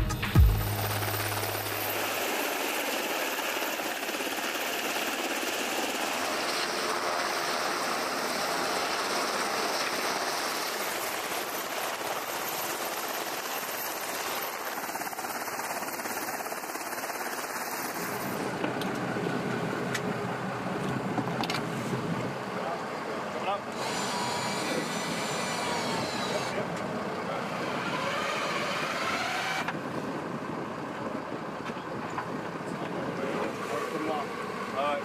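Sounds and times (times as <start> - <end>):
helicopter hovering: 0.0 - 35.0.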